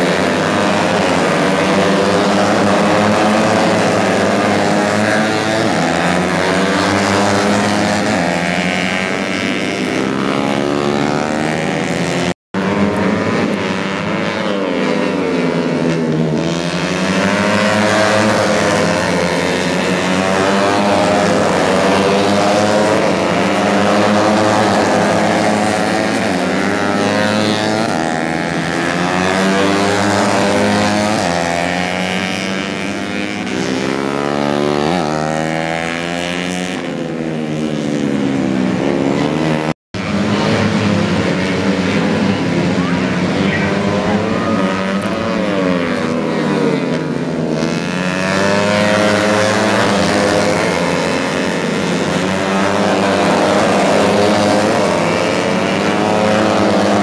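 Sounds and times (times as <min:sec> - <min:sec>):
racing motorcycles passing: 0:00.0 - 0:57.0.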